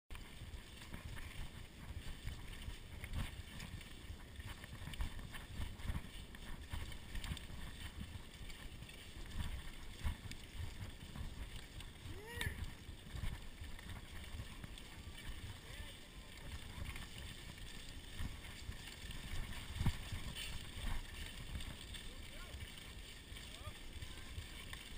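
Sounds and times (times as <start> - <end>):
wind and tyre rumble: 0.1 - 24.9.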